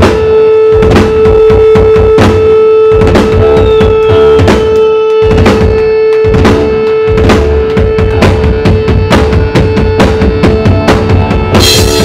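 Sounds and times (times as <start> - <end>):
bass guitar: 0.0 - 12.0
drum kit hits: 0.0 - 12.0
electric guitar: 0.0 - 12.0
steady held tone: 0.0 - 12.0.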